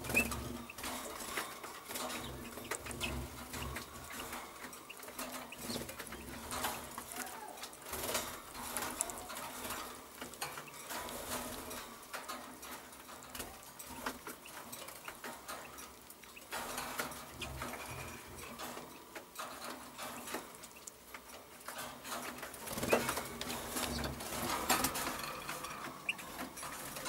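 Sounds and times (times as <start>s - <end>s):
bird clicks and rustles in cage: 0.0s - 27.0s.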